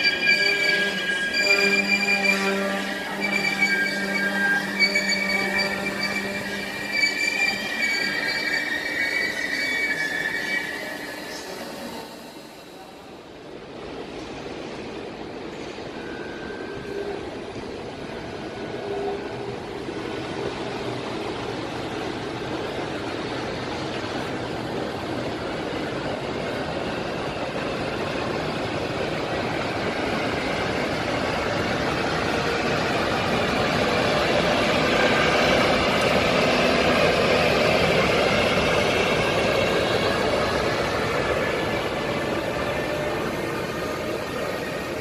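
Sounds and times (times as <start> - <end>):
electric locomotive running: 0.0 - 13.6, 15.1 - 45.0.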